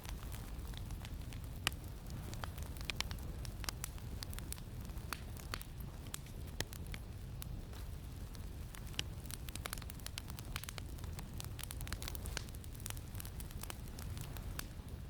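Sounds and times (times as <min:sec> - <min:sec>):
campfire crackling and popping: 0:00.0 - 0:15.0
low rumble of wind: 0:00.0 - 0:15.0.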